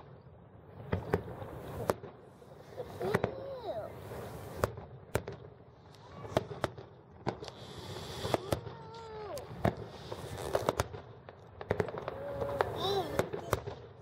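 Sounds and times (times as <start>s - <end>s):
fireworks bangs: 0.7s - 14.0s.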